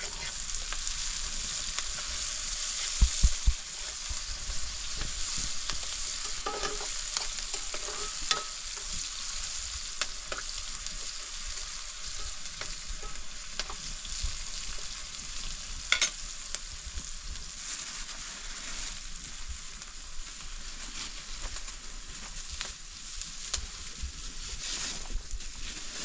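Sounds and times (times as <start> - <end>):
food sizzling in oil: 0.0 - 26.0
oil crackles and pops: 0.0 - 26.0.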